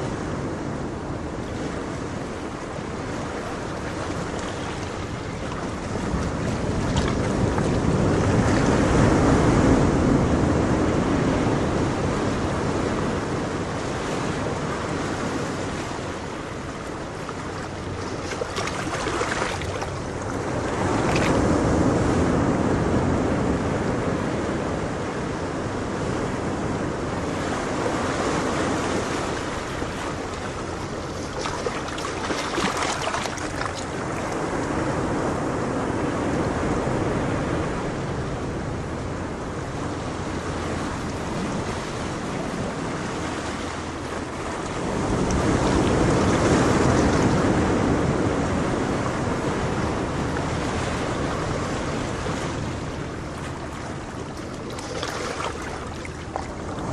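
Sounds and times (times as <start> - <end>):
ocean waves breaking: 0.0 - 56.9.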